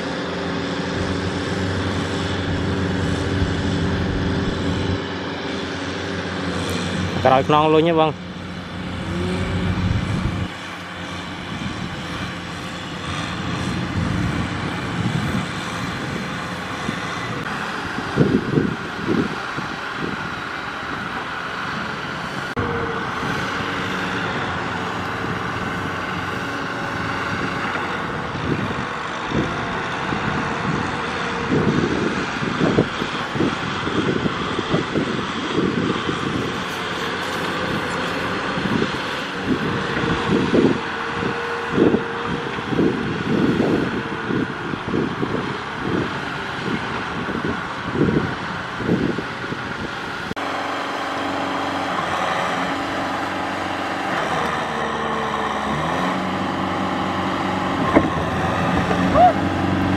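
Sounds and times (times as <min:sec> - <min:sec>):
uneven low rumbling: 0:00.0 - 0:46.0, 0:50.3 - 0:59.9
combine harvester working: 0:00.0 - 0:59.9
tractor engine running: 0:00.0 - 0:59.9.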